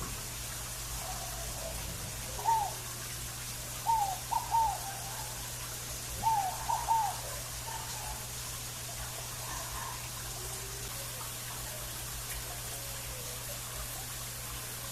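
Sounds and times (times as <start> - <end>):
dove cooing: 0.0 - 14.2
faint hiss: 0.0 - 14.9.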